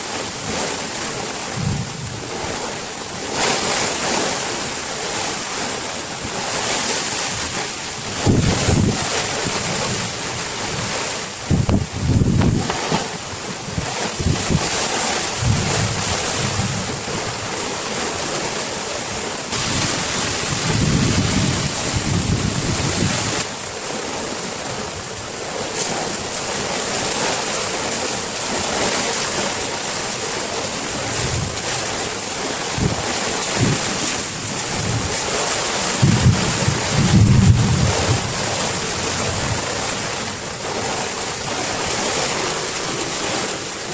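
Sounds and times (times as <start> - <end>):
torrential rain hissing: 0.0 - 43.9
wind gusts buffeting microphone: 0.2 - 43.9.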